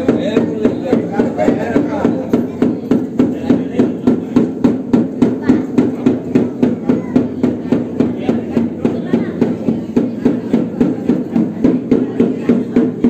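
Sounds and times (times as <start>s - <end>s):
rhythmic percussion beating: 0.0s - 13.0s.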